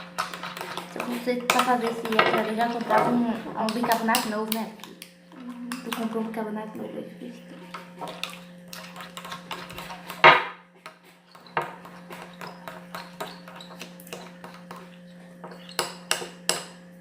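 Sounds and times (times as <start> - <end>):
utensils tapping against bowls: 0.0 - 6.4, 7.6 - 16.8.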